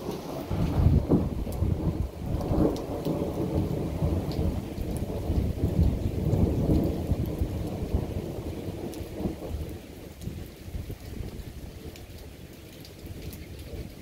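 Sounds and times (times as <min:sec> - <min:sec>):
thunder rumbling: 0:00.0 - 0:12.0
rain falling: 0:00.0 - 0:14.0.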